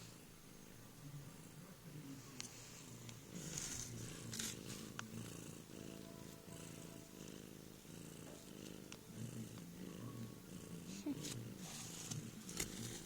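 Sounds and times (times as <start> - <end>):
cat purring: 1.0 - 13.0.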